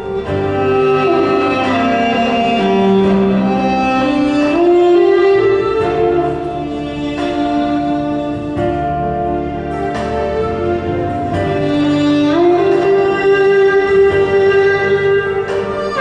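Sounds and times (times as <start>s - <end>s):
slow bowed strings music: 0.0s - 16.0s.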